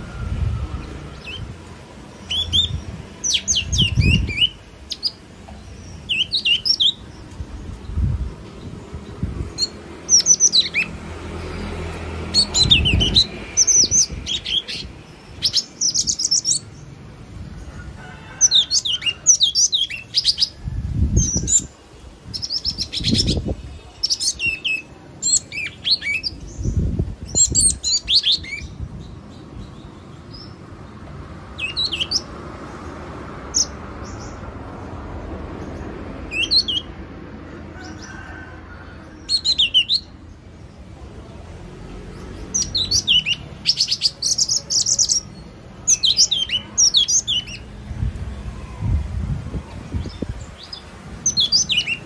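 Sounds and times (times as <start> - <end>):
bird chirping calls: 0.0 - 17.0, 18.4 - 32.9, 35.6 - 37.0, 39.1 - 40.8, 42.0 - 49.0, 49.6 - 52.0.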